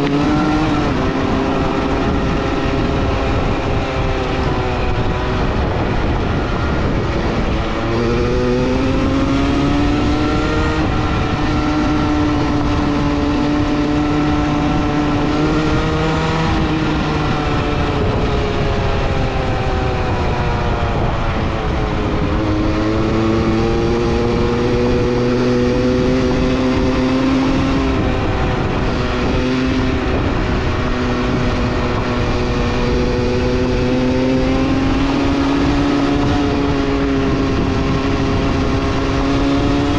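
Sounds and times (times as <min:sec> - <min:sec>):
vehicle engine running hard: 0:00.0 - 0:39.9.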